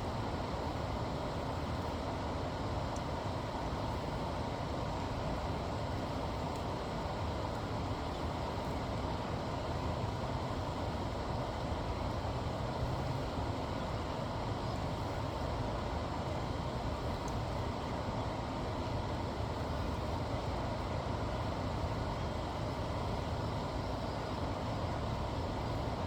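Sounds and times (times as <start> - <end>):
low rumbling outdoor background: 0.0 - 26.0.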